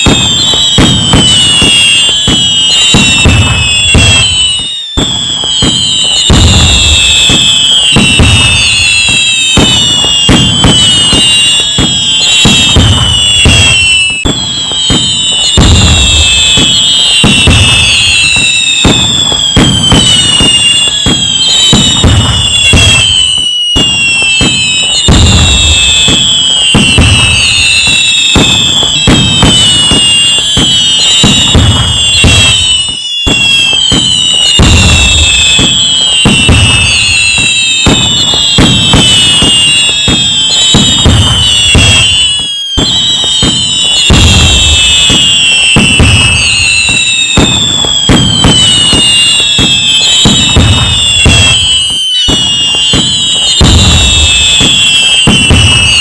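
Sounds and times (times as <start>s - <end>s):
fireworks bangs and crackling: 0.0s - 56.0s
fireworks whistles falling in pitch: 0.0s - 56.0s.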